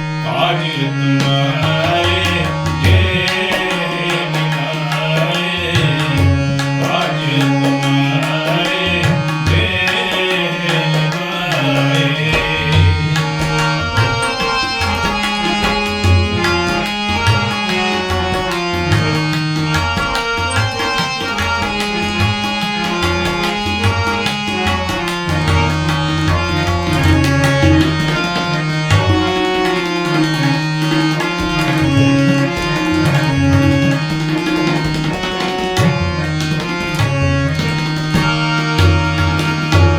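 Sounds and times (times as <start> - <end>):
tabla playing a steady rhythm: 0.0 - 39.9.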